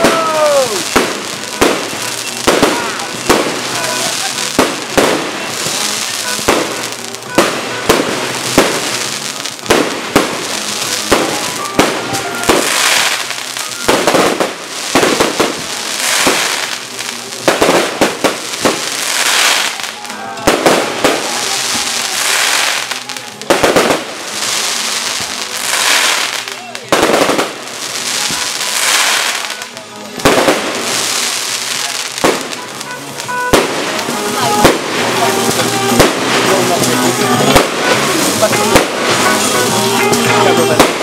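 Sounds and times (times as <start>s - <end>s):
hissing of firework sparks: 0.0s - 41.0s.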